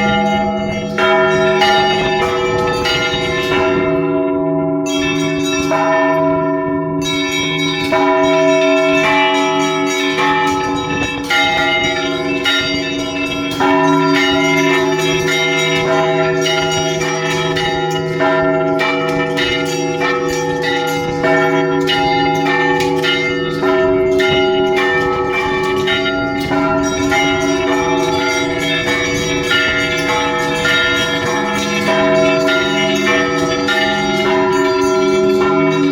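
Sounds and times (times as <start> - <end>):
small bells struck rapidly: 0.0 - 6.4, 7.0 - 35.9
large bells ringing: 0.0 - 35.9.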